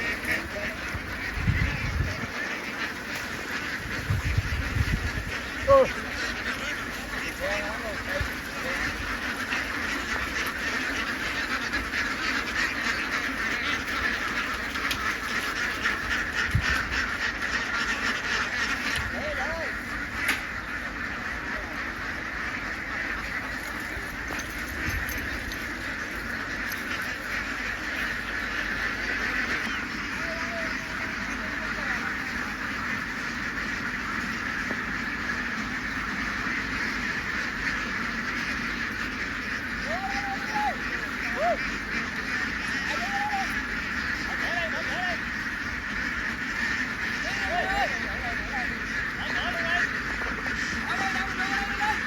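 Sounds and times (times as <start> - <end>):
flock of ducks quacking: 0.0 - 52.0.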